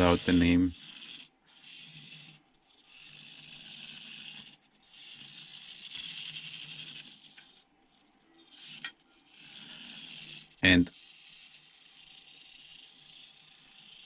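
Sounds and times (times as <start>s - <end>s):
toy car motor whirring: 0.0s - 14.0s.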